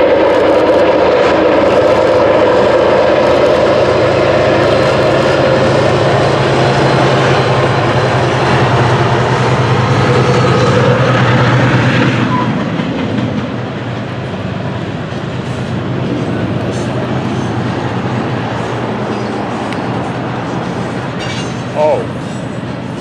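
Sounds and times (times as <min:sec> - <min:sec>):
diesel locomotives droning: 0:00.0 - 0:23.0
freight cars rumbling: 0:00.0 - 0:23.0.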